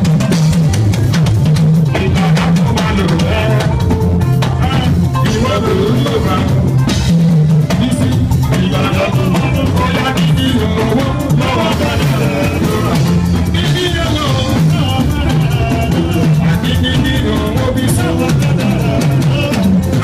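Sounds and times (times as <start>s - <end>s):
bass line: 0.0s - 20.0s
drums: 0.0s - 20.0s
person singing: 1.8s - 20.0s.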